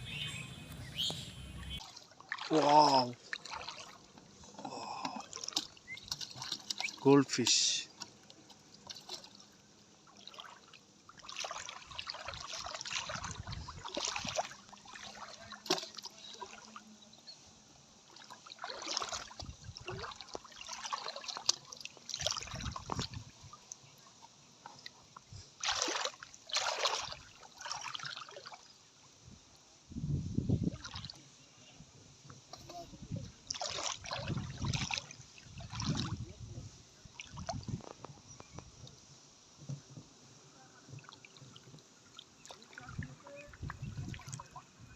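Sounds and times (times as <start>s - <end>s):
water splashing and sloshing: 0.0s - 29.2s, 30.6s - 31.3s, 32.4s - 44.9s.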